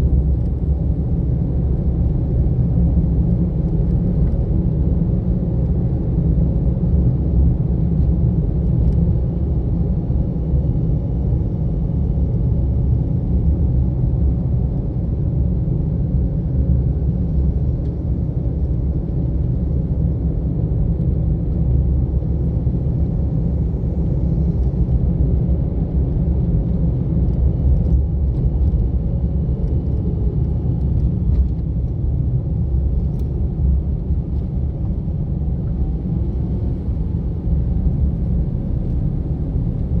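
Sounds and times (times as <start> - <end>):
car engine rumble: 0.0 - 40.0.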